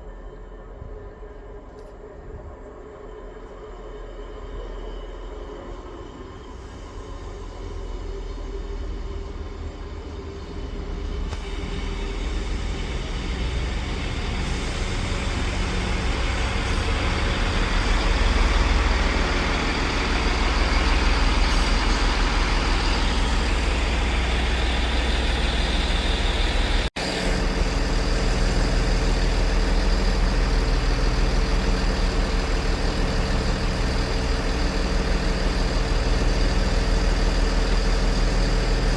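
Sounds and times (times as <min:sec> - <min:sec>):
train engine hum: 0:00.0 - 0:38.9
train passing: 0:00.0 - 0:38.9.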